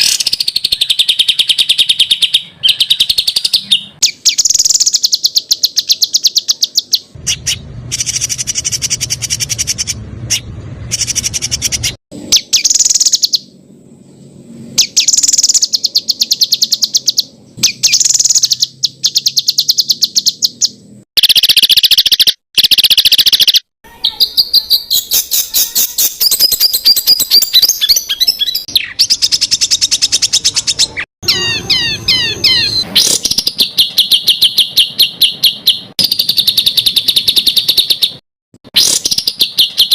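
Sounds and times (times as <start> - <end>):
songbird singing rapid sharp notes: 0.0 - 38.2, 38.8 - 39.9.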